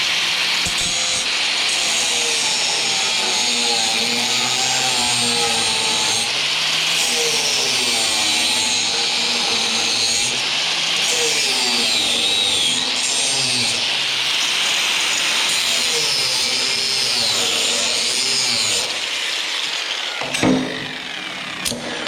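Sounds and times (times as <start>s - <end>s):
power grinder grinding steel: 0.0s - 22.0s.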